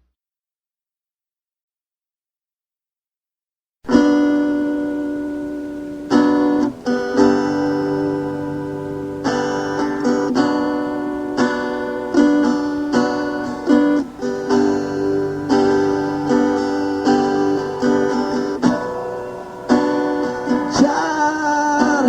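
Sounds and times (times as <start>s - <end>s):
guitar strumming chords: 3.9s - 22.0s.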